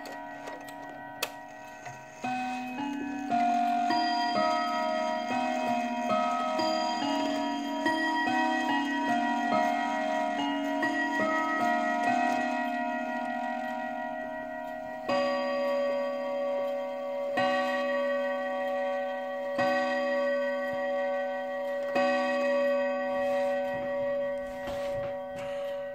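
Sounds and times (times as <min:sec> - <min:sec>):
clock chime: 0:00.0 - 0:25.9
clock striking: 0:00.0 - 0:25.9
faint clock ticking: 0:00.0 - 0:25.9.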